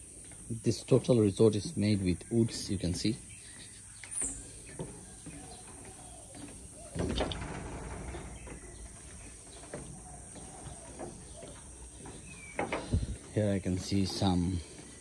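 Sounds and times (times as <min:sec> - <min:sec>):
footsteps on wooden boardwalk: 0:00.0 - 0:15.0
outdoor ambience: 0:00.0 - 0:15.0
faint bird calls: 0:01.5 - 0:15.0.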